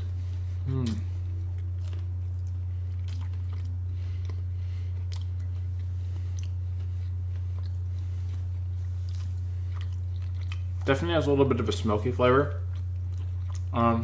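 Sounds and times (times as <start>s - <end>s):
steady low hum: 0.0s - 14.0s
person chewing crunchy food: 0.3s - 10.9s, 12.6s - 13.8s.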